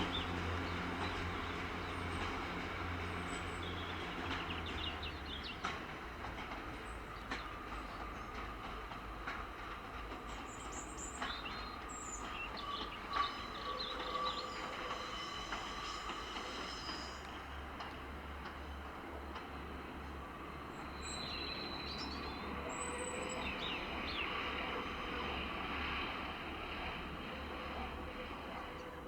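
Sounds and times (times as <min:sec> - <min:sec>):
diesel train running: 0:00.0 - 0:29.0.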